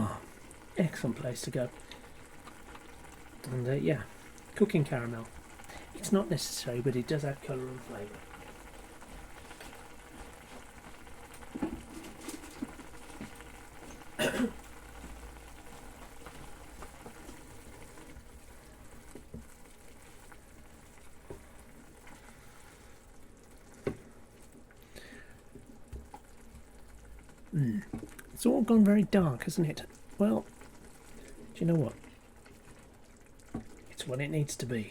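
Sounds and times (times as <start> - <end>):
onion sizzling in a pan: 0.0 - 34.9.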